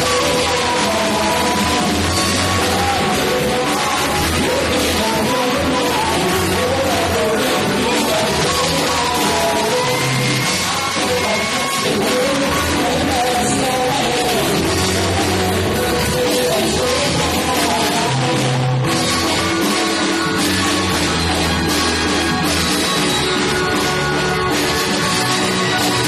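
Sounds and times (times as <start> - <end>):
person singing: 0.0 - 26.0
rock band playing: 0.0 - 26.0.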